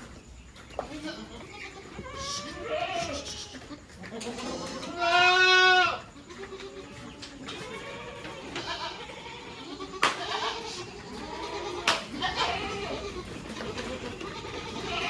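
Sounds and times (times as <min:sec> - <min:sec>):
goat kids bleating: 0:00.7 - 0:15.0.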